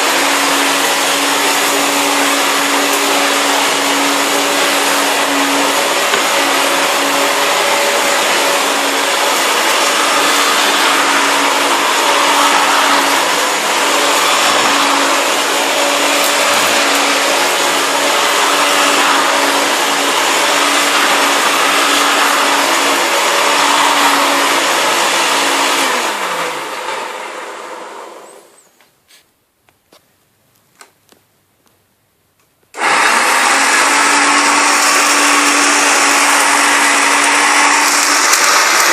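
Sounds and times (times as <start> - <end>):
vacuum cleaner running on carpet: 0.0 - 28.6, 32.8 - 38.9
vacuum motor winding down: 0.0 - 28.6, 32.8 - 38.9.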